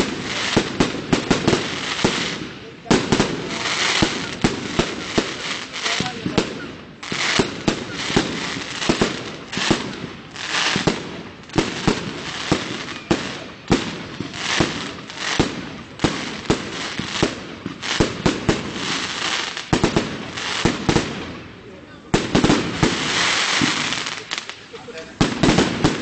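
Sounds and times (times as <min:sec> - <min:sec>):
fireworks bangs: 0:00.0 - 0:26.0
fireworks hiss and crackle: 0:00.0 - 0:26.0.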